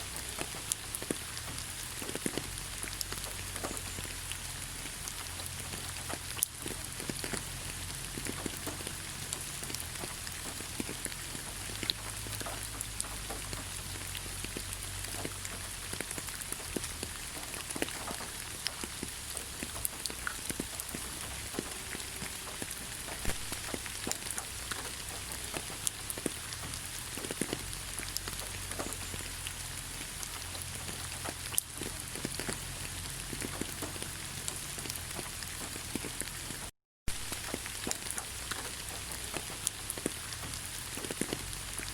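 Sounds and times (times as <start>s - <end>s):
rain hissing in forest: 0.0s - 41.9s
raindrops clicking: 0.0s - 41.9s.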